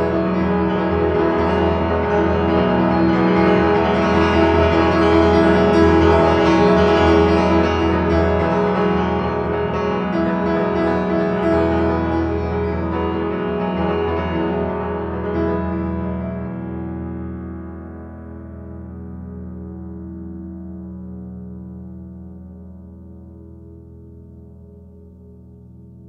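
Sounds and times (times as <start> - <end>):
solo piano playing: 0.0 - 26.0.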